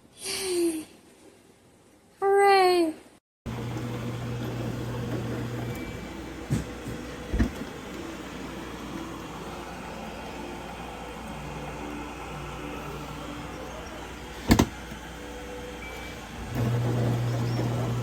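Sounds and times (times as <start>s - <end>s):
dishwasher whirring: 3.5s - 18.0s
low hum: 3.5s - 18.0s.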